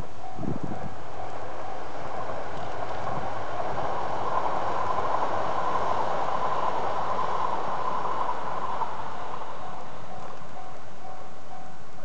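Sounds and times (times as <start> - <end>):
high-speed train passing: 0.0 - 12.0
thin steady whine: 0.0 - 12.0.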